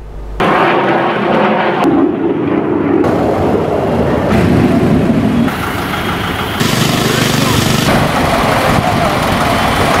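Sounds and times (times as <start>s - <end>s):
road traffic: 0.0s - 1.9s, 3.0s - 10.0s.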